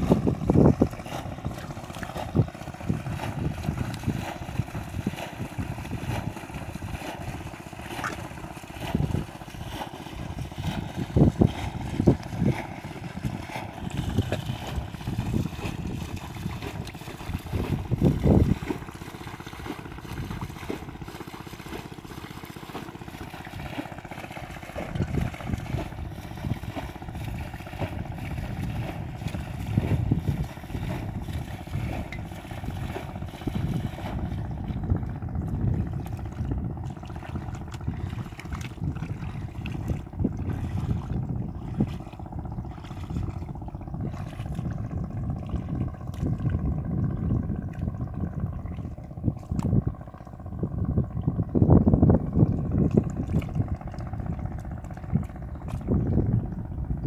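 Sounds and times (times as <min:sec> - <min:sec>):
hands sloshing in muddy water: 0:00.0 - 0:51.5, 0:52.2 - 0:57.0
wind buffeting microphone: 0:00.0 - 0:57.0.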